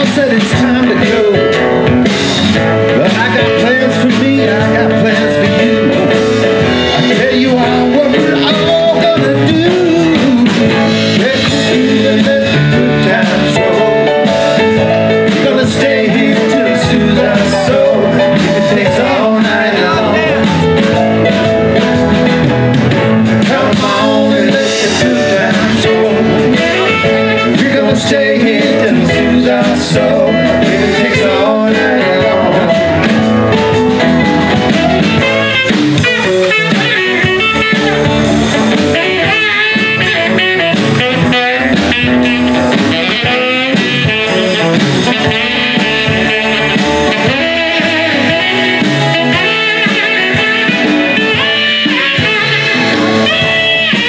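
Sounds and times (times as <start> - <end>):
live blues band playing: 0.0 - 54.0
saxophone lead: 0.0 - 54.0.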